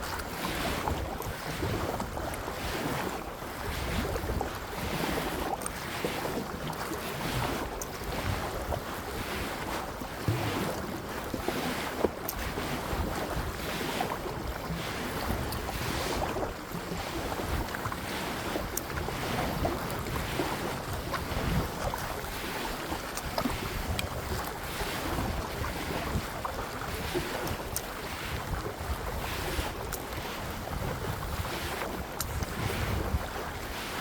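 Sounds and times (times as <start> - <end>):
wind buffeting microphone: 0.0 - 5.7, 7.2 - 34.0
water lapping around kayak: 0.0 - 34.0.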